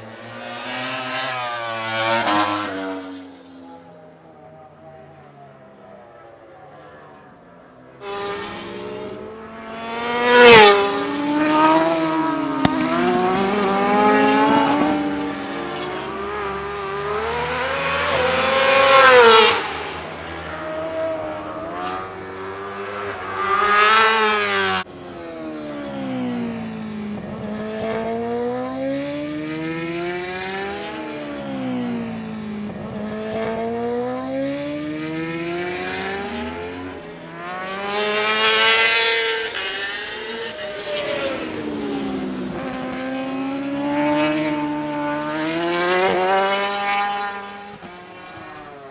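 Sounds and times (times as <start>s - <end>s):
racing motorcycles revving: 0.0s - 3.9s, 8.0s - 48.9s
motorcycles passing by: 0.0s - 4.3s, 6.2s - 48.9s.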